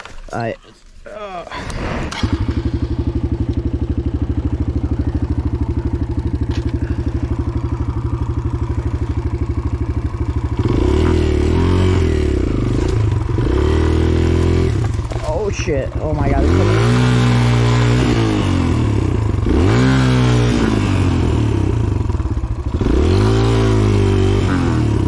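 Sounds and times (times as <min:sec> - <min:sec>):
dirt bike engine idling and revving: 0:01.5 - 0:25.0.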